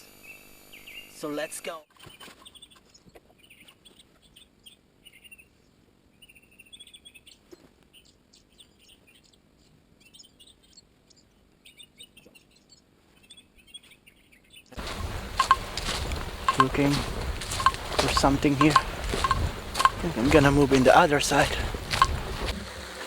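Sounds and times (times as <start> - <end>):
faint forest birdsong: 0.2 - 1.2, 2.0 - 22.5.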